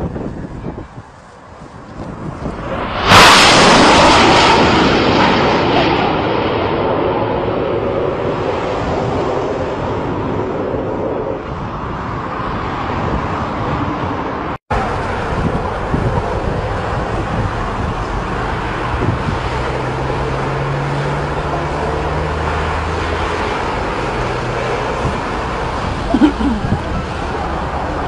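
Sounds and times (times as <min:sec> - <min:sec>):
wind on microphone: 0:00.0 - 0:06.2, 0:06.9 - 0:28.0
jet engine roar: 0:00.0 - 0:28.0.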